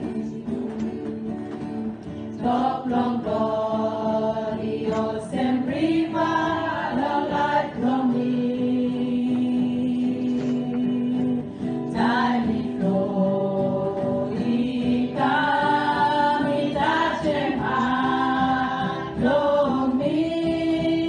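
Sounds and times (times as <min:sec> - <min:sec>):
women's choir singing a hymn: 0:02.2 - 0:21.0.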